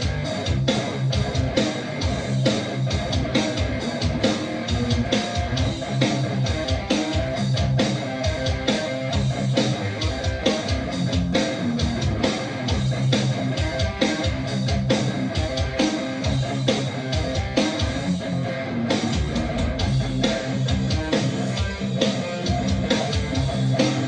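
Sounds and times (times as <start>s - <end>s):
electric guitar quick picked notes: 0.0s - 24.0s.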